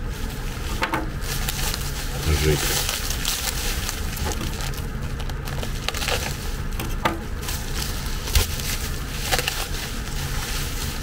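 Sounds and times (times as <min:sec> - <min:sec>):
bubble wrap crackling: 0:00.0 - 0:11.0.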